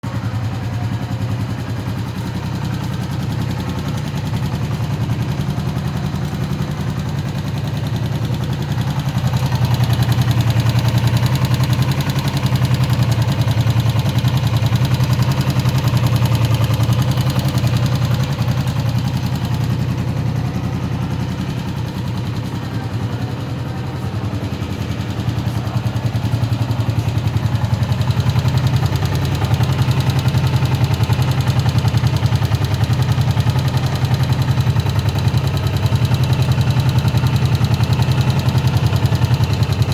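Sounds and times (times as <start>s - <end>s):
engine knocking: 0.0s - 39.9s
motorcycle engine idling: 0.0s - 39.9s.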